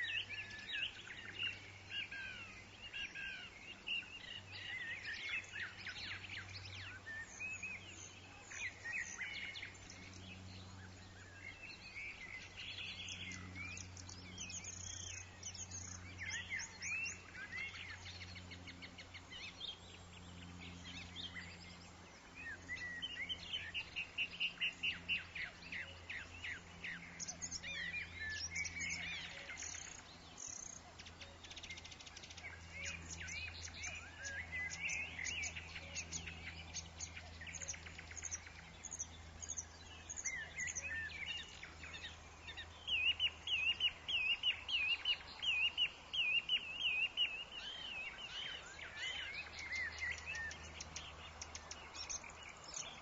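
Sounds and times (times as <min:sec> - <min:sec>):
faint low hum: 0:00.0 - 0:53.0
songbirds chirping and singing: 0:00.0 - 0:53.0.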